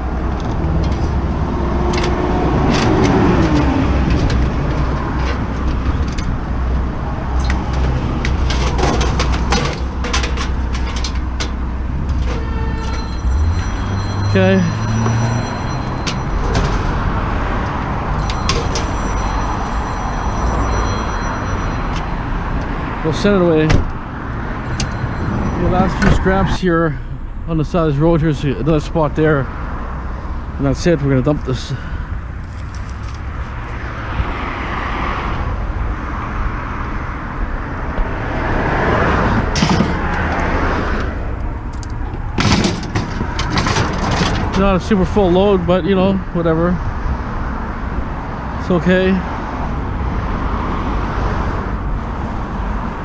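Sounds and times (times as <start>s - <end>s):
vehicle road and engine noise: 0.0s - 53.0s.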